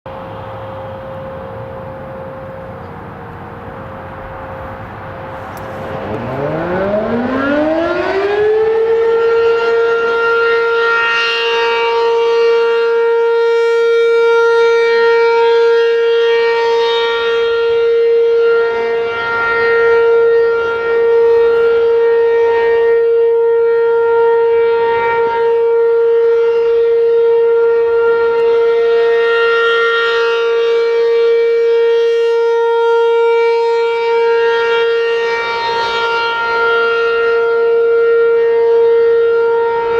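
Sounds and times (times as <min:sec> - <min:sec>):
outdoor warning siren winding up: 0:00.1 - 0:39.9.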